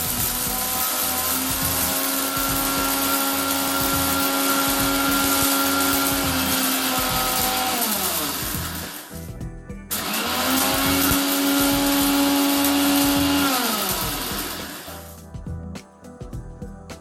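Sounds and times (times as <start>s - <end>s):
mixer grinder motor whining: 0.0s - 15.2s.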